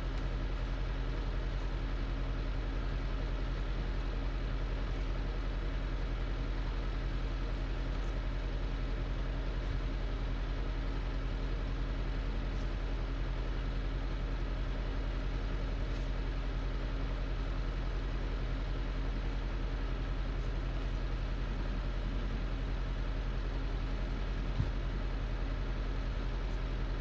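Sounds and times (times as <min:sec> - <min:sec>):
skid steer engine running: 0:00.0 - 0:27.0.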